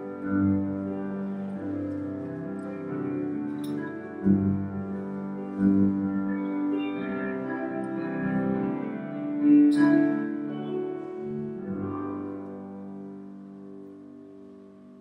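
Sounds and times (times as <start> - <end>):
keyboard playing slow held chords: 0.0 - 15.0.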